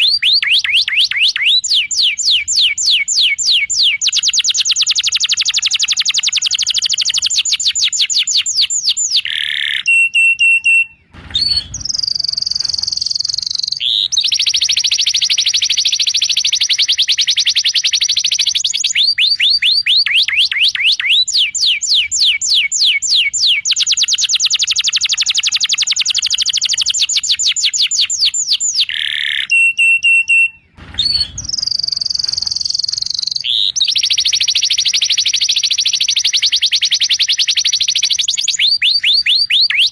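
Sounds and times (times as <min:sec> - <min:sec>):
canary song trills: 0:00.0 - 0:39.9.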